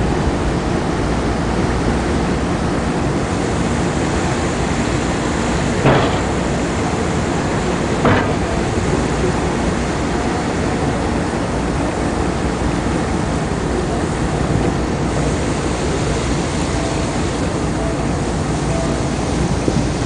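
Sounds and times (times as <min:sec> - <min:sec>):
ferry engines rumbling: 0:00.0 - 0:20.0
propeller wash churning water: 0:00.0 - 0:20.0.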